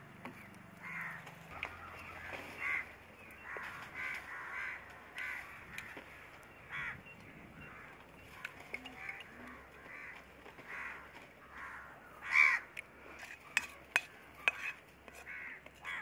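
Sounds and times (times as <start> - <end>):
crows cawing: 0.8 - 16.0.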